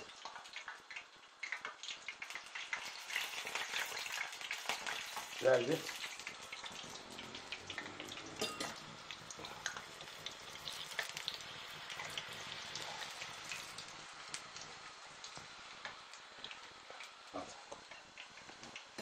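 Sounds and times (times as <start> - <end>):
dough deep-frying in hot oil: 0.0 - 19.0.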